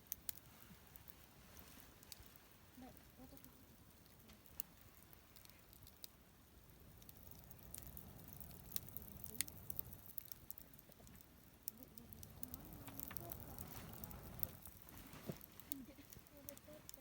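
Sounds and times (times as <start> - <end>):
fire crackling and popping: 0.0 - 17.0
low steady rumble: 0.2 - 17.0.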